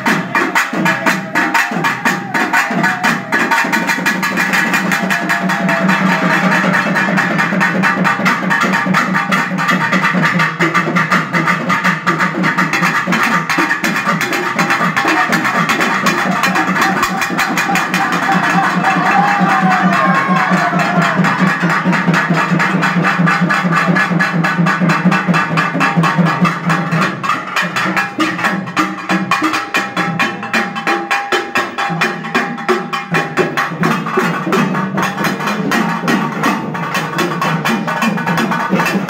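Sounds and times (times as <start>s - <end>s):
fast barrel drumming: 0.0s - 39.0s.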